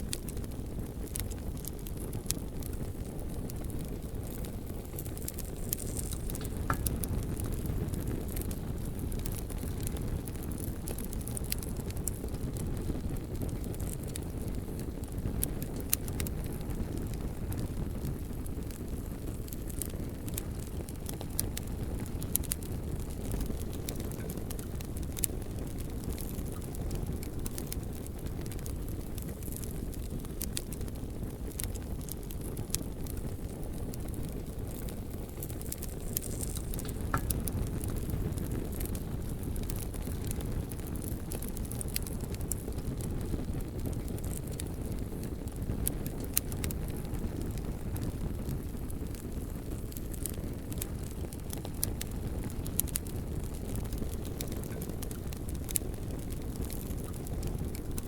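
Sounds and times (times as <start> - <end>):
bonfire flames rushing: 0.0 - 58.0
burning wood crackling and popping: 0.0 - 58.0.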